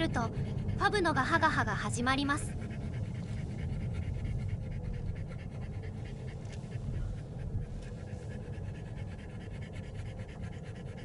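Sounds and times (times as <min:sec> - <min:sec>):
car road and engine rumble: 0:00.0 - 0:11.0
dog panting heavily: 0:00.0 - 0:11.0.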